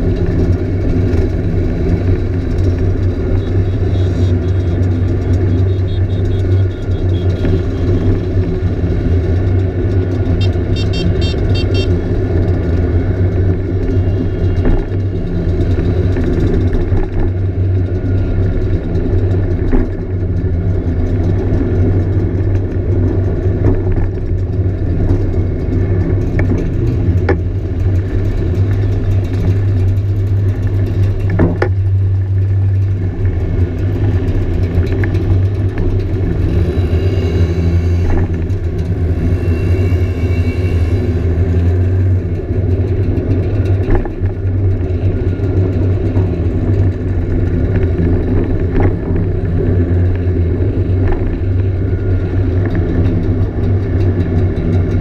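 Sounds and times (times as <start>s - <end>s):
scooter engine droning: 0.0s - 55.0s.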